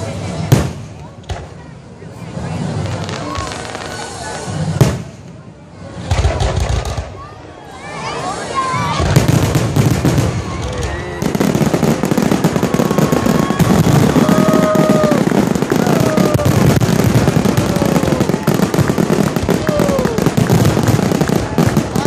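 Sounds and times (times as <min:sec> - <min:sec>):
fireworks crackling and popping: 0:00.0 - 0:22.0.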